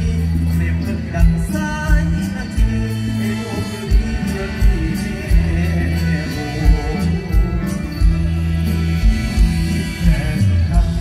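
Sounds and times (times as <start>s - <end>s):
bass line: 0.0s - 11.0s
live band music: 0.0s - 11.0s.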